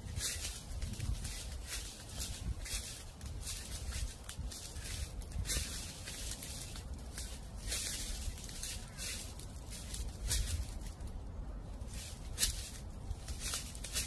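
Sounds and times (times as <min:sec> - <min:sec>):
footsteps crunching dry leaves: 0:00.0 - 0:14.0
low wind rumble: 0:00.0 - 0:14.0.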